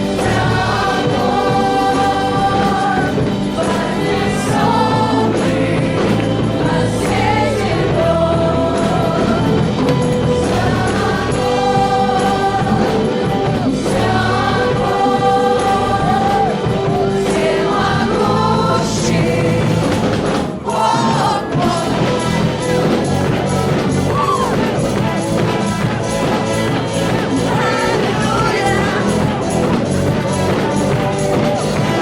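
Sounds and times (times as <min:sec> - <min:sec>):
full band accompaniment: 0:00.0 - 0:32.0
group of voices singing gospel: 0:00.0 - 0:32.0.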